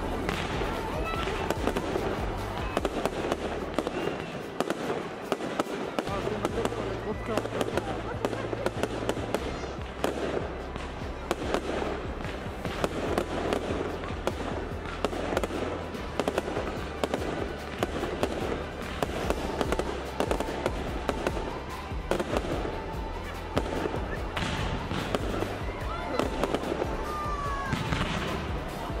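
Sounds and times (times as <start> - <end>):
fireworks bursting and crackling: 0.0 - 29.0
music playing: 0.0 - 29.0.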